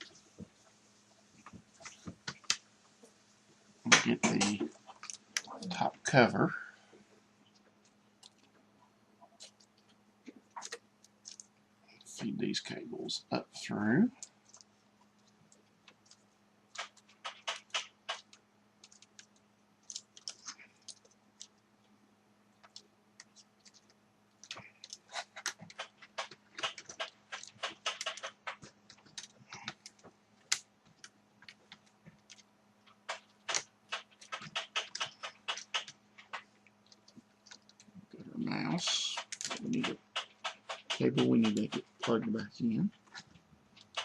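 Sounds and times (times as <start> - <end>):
faint low hum: 0.0 - 17.2, 17.9 - 44.0.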